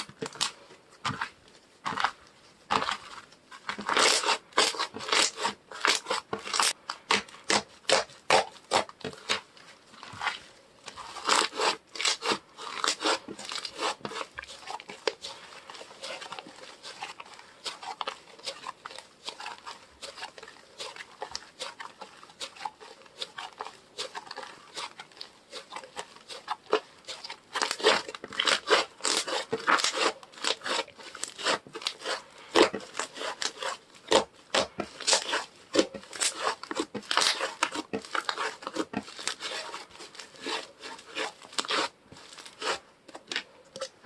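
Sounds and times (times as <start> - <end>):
hands squishing slime: 0.0 - 44.0.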